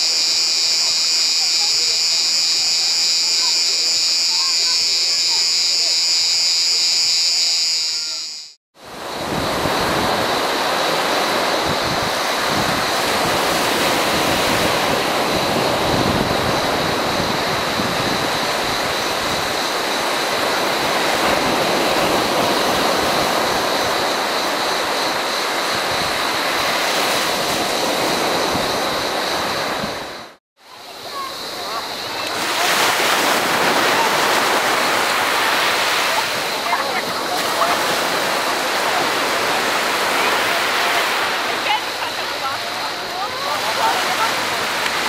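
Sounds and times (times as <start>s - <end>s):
small waves breaking on shore: 8.8s - 45.0s.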